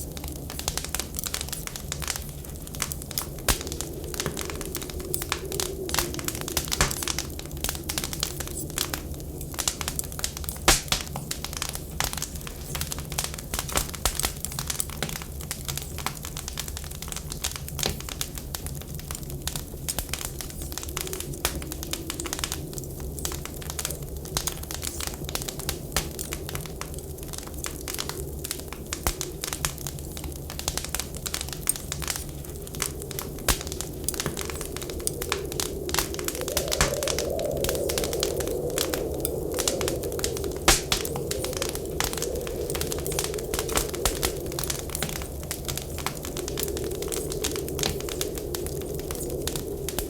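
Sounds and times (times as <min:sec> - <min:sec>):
faint whistling wind: 0:00.0 - 0:50.0
wood fire crackling and popping: 0:00.0 - 0:50.0.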